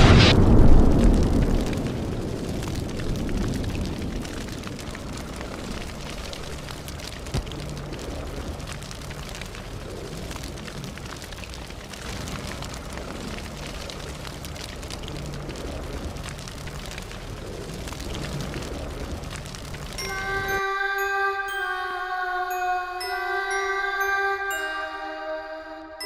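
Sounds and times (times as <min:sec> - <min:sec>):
fire hissing and crackling: 0:00.0 - 0:21.1.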